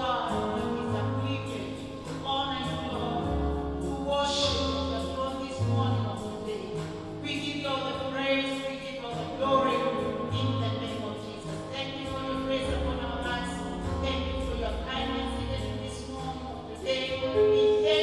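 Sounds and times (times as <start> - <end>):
bass line: 0.0 - 18.0.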